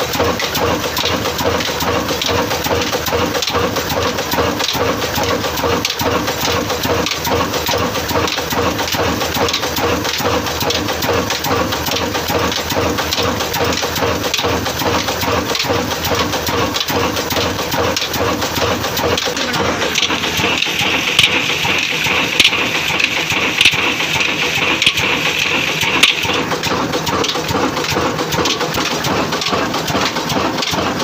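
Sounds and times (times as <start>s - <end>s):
stationary diesel engine running: 0.0s - 31.0s.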